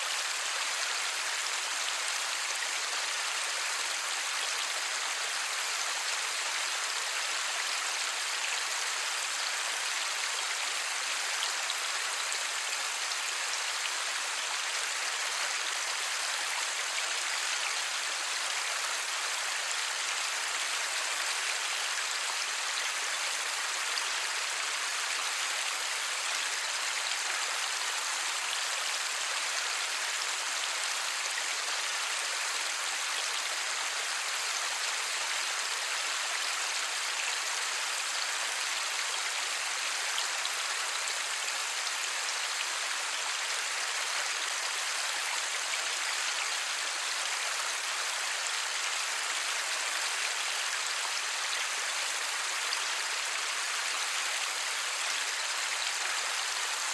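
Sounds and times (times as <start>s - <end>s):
light rain falling: 0.0s - 56.9s.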